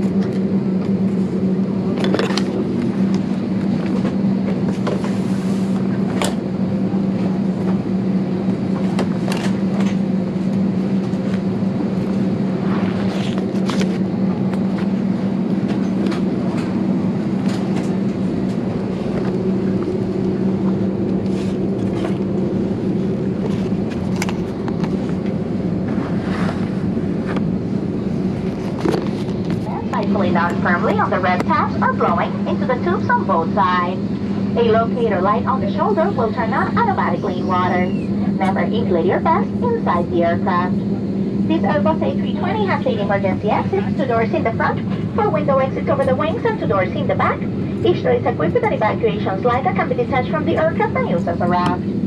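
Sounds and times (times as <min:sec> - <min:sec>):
aircraft cabin air hum: 0:00.0 - 0:52.0.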